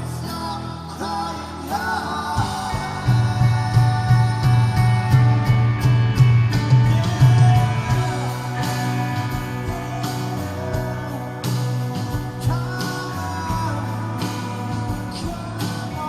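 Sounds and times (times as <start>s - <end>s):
person singing: 0.0s - 16.0s
rock band playing live: 0.0s - 16.0s.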